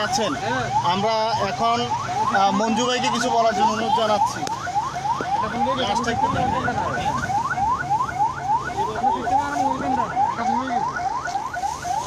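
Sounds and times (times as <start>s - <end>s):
electronic siren chirping: 0.0s - 12.0s.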